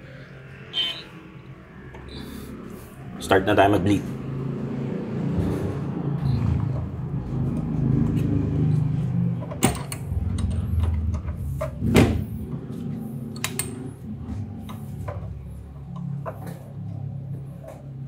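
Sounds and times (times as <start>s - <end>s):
steady low rumble: 1.6s - 18.0s.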